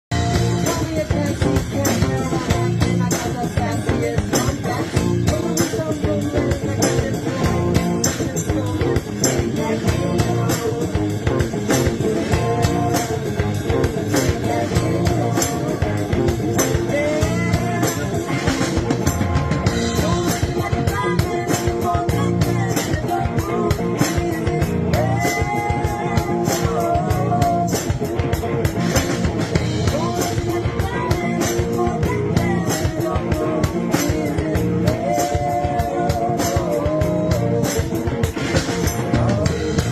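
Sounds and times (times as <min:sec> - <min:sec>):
drums: 0:00.0 - 0:39.9
slap bass: 0:00.0 - 0:39.9.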